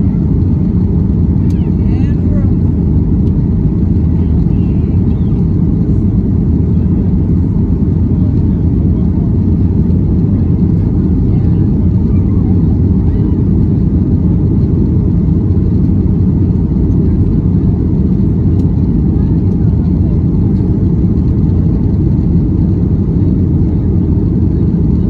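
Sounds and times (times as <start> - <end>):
air rushing along fuselage: 0.0 - 25.0
jet engines at climb power: 0.0 - 25.0.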